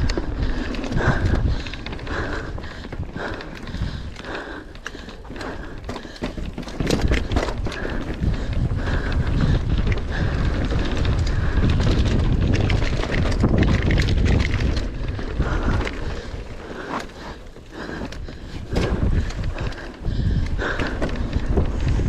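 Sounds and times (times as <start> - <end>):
bike knocking and rattling: 0.0 - 22.0
wind buffeting microphone: 0.0 - 22.0.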